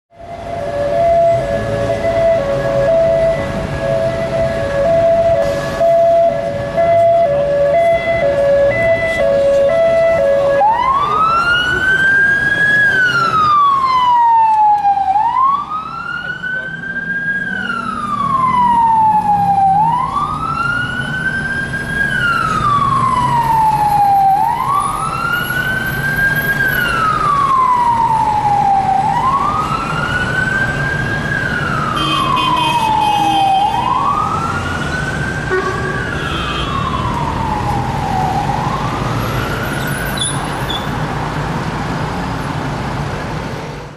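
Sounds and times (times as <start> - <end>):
police siren wailing: 0.1 - 40.7
city traffic rumble: 0.1 - 43.9.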